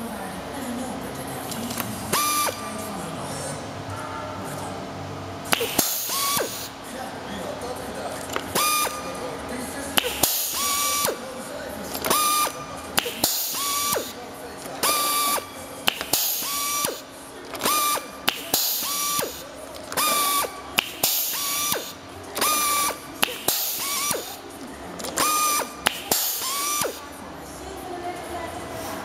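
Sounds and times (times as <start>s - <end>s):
air motor whirring: 1.4s - 3.6s, 5.3s - 27.3s.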